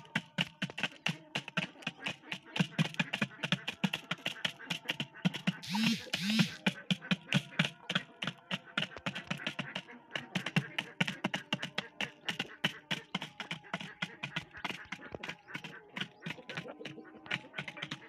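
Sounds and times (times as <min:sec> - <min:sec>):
chickens pecking on plastic: 0:00.0 - 0:18.0.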